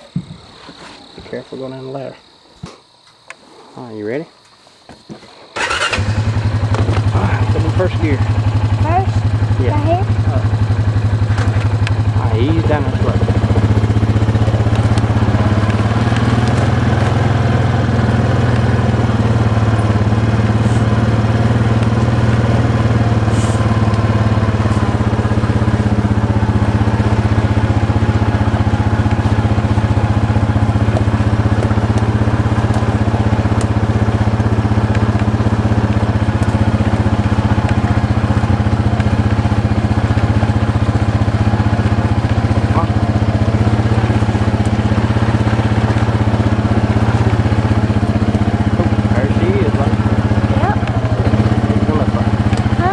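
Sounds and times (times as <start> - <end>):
vehicle engine running: 5.6 - 52.9.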